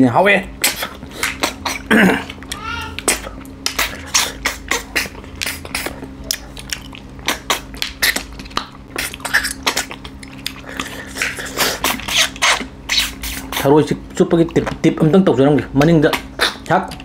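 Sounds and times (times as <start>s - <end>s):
low steady hum: 0.0s - 17.0s
chewing and mouth smacks: 0.5s - 14.8s, 15.9s - 17.0s.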